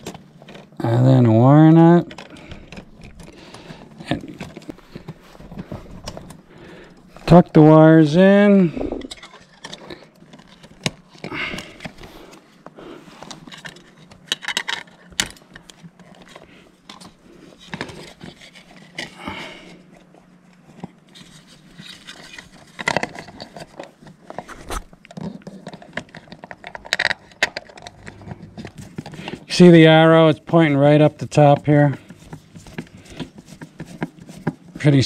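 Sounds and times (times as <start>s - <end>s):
faint steady hum: 0.0s - 35.0s
wires scraping and rustling: 0.0s - 35.0s.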